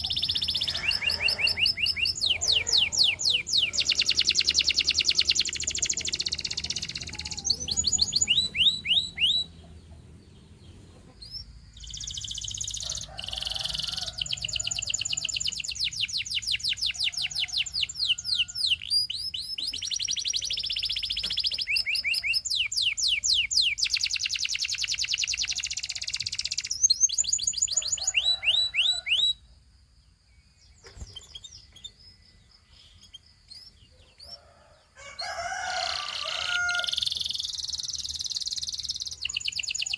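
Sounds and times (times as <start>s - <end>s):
canary singing: 0.0s - 29.4s, 30.8s - 39.9s.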